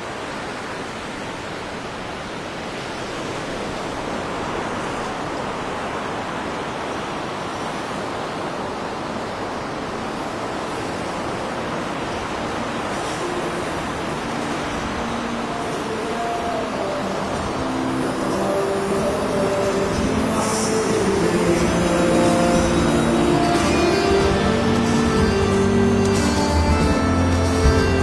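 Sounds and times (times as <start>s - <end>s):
sea surf washing on shore: 0.0s - 28.0s.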